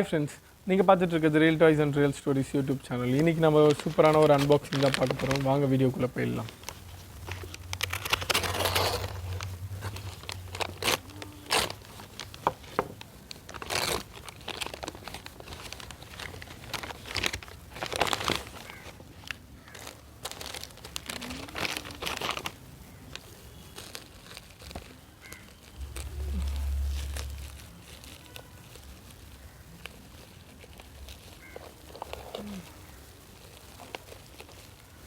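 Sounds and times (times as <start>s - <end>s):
packaging crinkling and rustling: 0.0s - 35.0s
packaging tearing: 0.0s - 35.0s.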